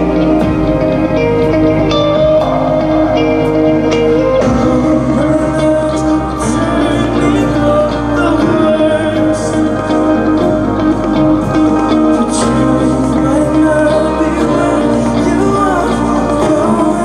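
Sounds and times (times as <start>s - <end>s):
electric guitar and bass chords: 0.0s - 17.0s
man singing: 2.4s - 17.0s.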